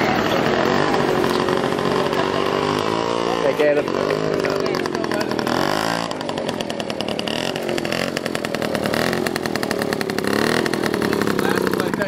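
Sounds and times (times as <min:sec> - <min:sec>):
moped engine revving: 0:00.0 - 0:12.0.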